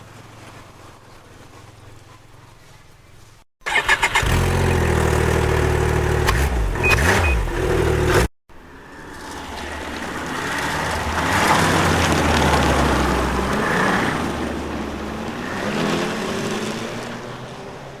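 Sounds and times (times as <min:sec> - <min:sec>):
snowmobile engine driving by: 0:00.0 - 0:02.9, 0:03.8 - 0:18.0.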